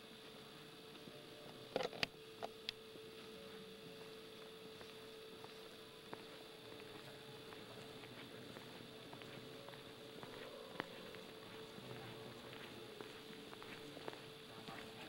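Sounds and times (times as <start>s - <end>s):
steady faint hum: 0.0s - 15.0s.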